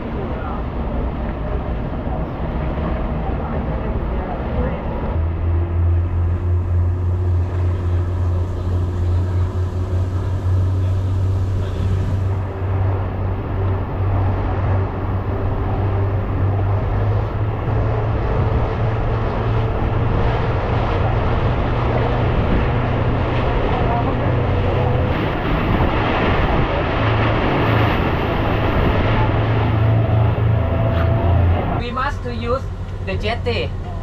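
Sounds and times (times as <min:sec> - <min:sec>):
boat engine drone: 0:00.0 - 0:34.0
wind and water rushing: 0:00.0 - 0:34.0.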